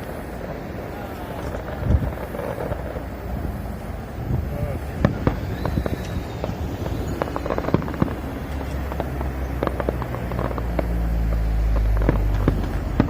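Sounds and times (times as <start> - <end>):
fireworks cracking and popping: 0.0 - 13.0
low rumble: 1.4 - 13.0.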